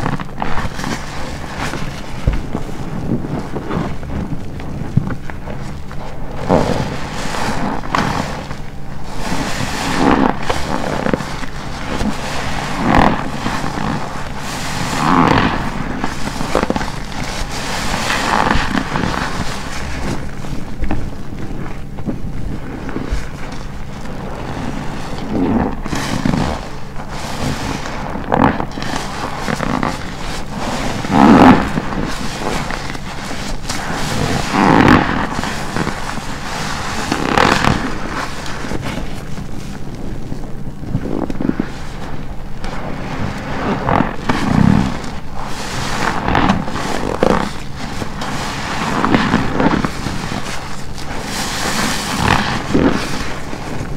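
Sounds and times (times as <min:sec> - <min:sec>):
wet sponge squishing: 0:00.0 - 0:53.9.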